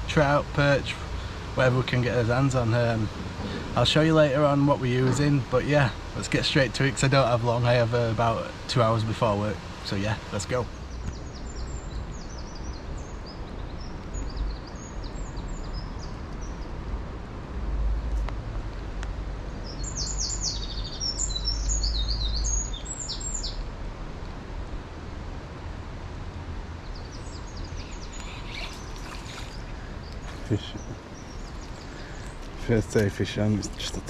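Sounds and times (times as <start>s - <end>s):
songbird chirping: 0.0s - 16.8s, 19.0s - 23.7s, 26.6s - 34.0s.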